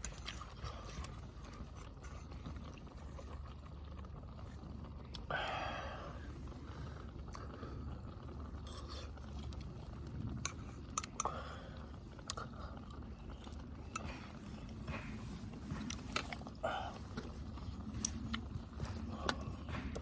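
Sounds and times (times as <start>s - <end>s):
steady low background noise: 0.0s - 20.0s.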